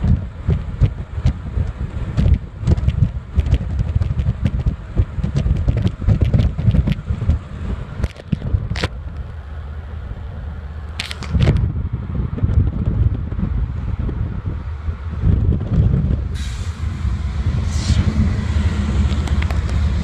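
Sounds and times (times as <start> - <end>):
car road noise: 0.0 - 20.0
wind buffeting microphone: 0.0 - 20.0.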